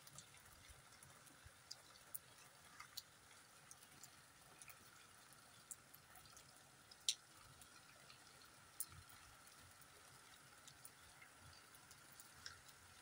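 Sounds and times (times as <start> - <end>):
faint rainfall hiss: 0.0 - 13.0
raindrops ticking: 0.0 - 13.0.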